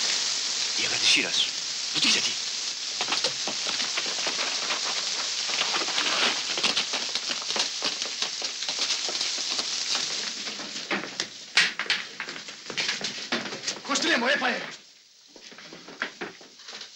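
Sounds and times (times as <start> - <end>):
heavy rain falling: 0.0 - 14.8, 15.4 - 16.9.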